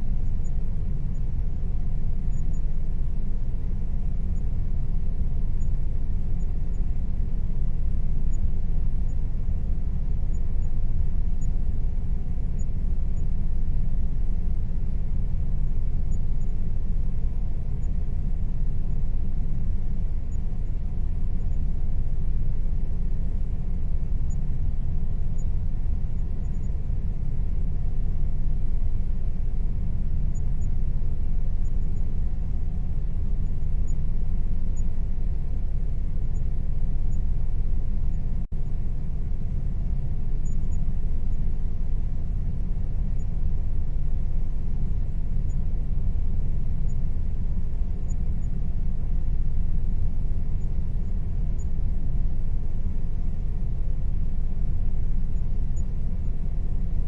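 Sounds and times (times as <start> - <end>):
air conditioner running: 0.0 - 57.0
faint steady tone: 0.0 - 57.0.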